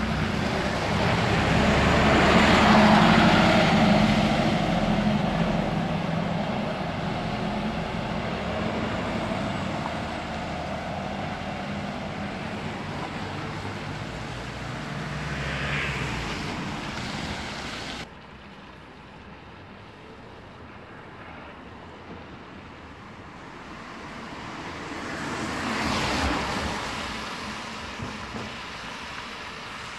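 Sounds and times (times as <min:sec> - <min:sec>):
car passing: 0:00.0 - 0:18.1, 0:23.2 - 0:29.9
bus engine drone: 0:00.0 - 0:29.9
road noise: 0:00.0 - 0:29.9.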